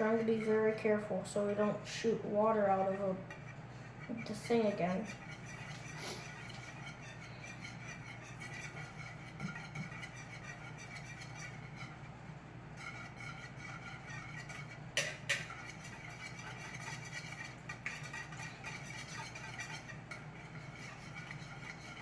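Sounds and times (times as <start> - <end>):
steady low hum: 0.0 - 22.0
whisk stirring batter: 0.0 - 22.0
whisk clicking on bowl: 2.8 - 22.0.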